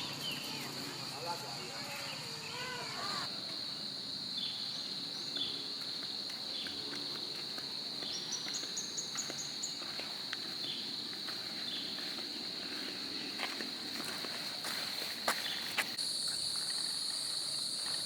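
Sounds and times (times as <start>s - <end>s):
birds chirping: 0.0s - 14.5s
insects droning: 0.0s - 18.0s.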